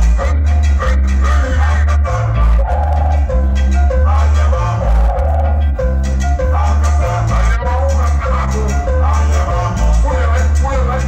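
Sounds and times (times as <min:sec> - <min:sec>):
loud latin dance music: 0:00.0 - 0:11.0.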